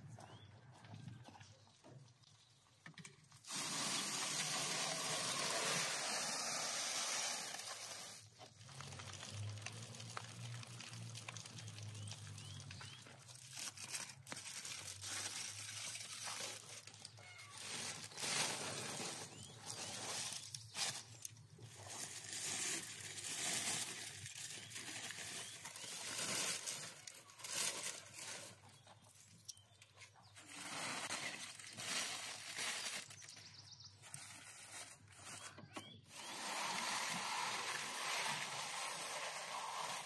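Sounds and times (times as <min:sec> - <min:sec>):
foil and paper crinkling: 0:03.4 - 0:40.0.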